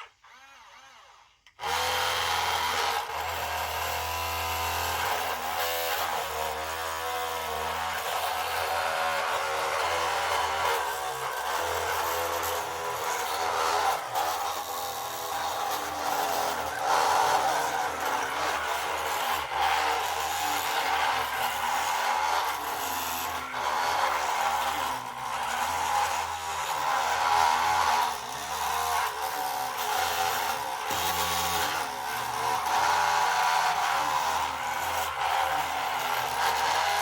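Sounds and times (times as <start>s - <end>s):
small electric motors whirring: 0.0s - 37.0s.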